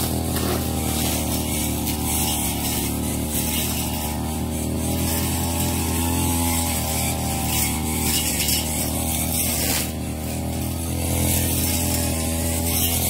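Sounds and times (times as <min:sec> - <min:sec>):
brush cutter engine buzzing: 0:00.0 - 0:13.0.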